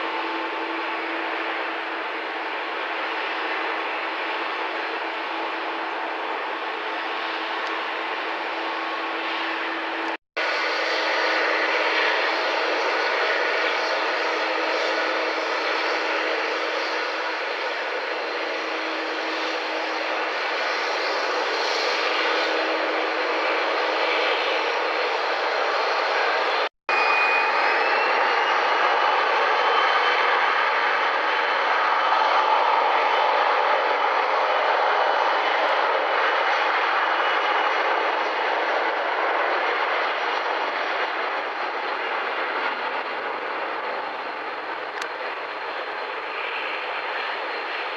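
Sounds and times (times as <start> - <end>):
jet engine rushing: 0.0 - 47.9.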